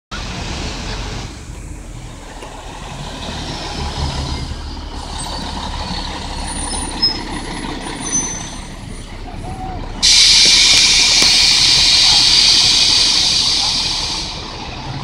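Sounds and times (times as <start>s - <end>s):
bus engine rumbling: 0.1s - 15.0s
light traffic: 0.1s - 15.0s.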